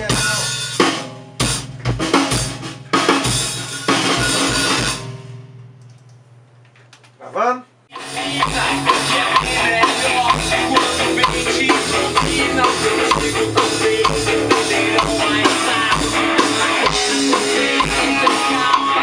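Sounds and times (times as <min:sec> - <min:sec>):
steady kick drum beat: 0:00.0 - 0:05.6, 0:07.9 - 0:19.0
rock music with drums and guitar: 0:00.0 - 0:05.8, 0:07.9 - 0:19.0.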